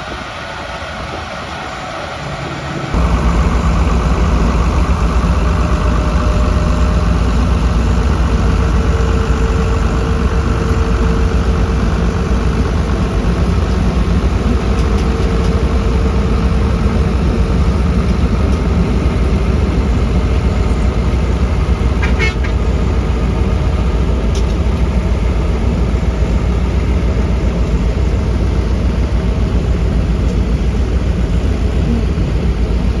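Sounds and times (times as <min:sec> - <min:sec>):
diesel machinery engine running: 0:01.0 - 0:33.0.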